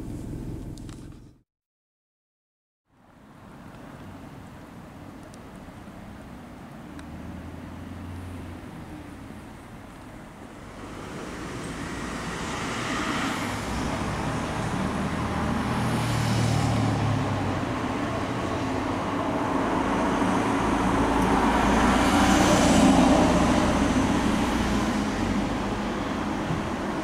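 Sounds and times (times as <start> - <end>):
vehicles passing: 3.0 - 27.0.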